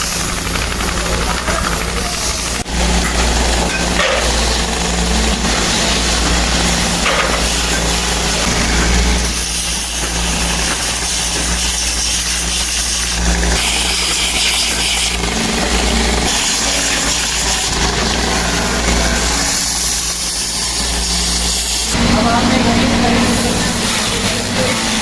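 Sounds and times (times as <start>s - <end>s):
workshop machine motor hum: 0.0s - 25.0s.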